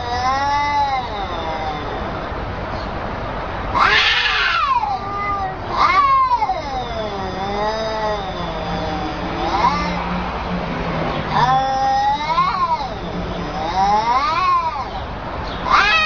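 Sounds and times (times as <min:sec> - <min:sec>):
cat yowling: 0:00.0 - 0:02.4, 0:03.7 - 0:10.2, 0:11.3 - 0:16.0.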